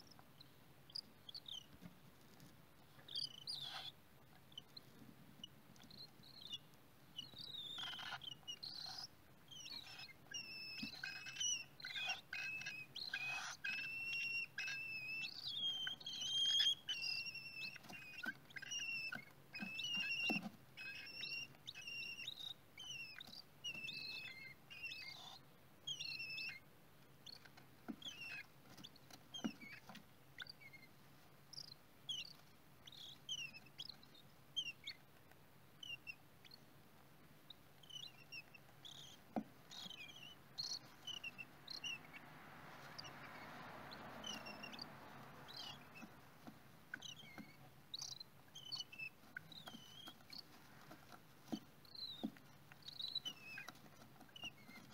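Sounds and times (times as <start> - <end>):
chicks chirping: 0.0 - 36.7, 37.4 - 54.9.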